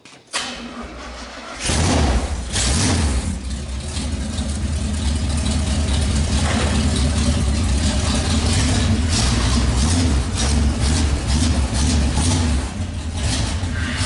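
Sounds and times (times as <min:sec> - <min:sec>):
race car engine running loudly: 0:02.5 - 0:14.0.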